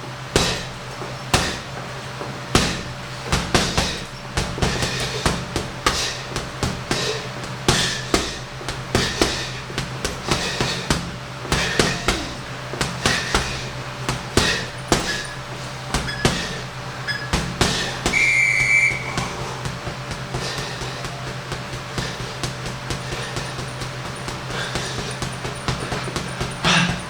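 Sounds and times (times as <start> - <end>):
steady low hum: 0.0 - 27.0
punches thudding on punching bag: 0.3 - 27.0.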